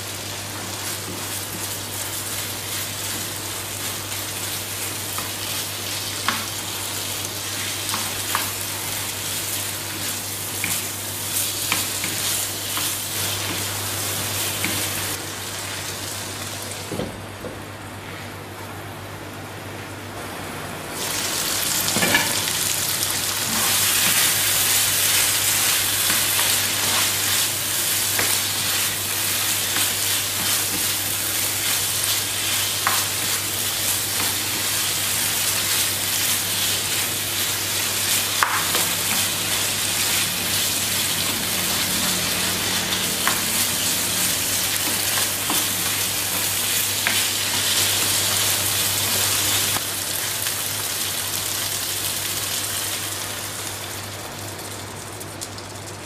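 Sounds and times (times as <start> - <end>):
meat sizzling in a frying pan: 0.0 - 16.8, 21.0 - 54.8.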